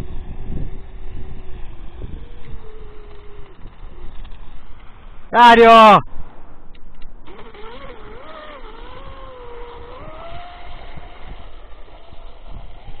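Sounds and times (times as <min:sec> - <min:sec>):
electric boat motor whining: 0:00.0 - 0:05.0, 0:07.2 - 0:13.0.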